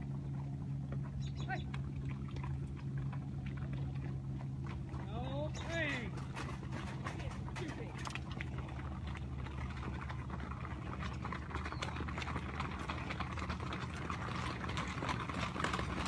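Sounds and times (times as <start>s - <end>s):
horse hoofbeats on wet dirt: 0.0s - 16.0s
low engine hum: 0.0s - 16.0s.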